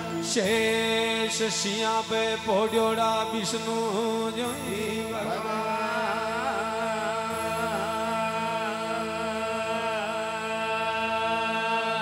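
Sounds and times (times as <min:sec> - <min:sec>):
instrumental drone: 0:00.0 - 0:12.0
man singing a long note: 0:00.0 - 0:12.0.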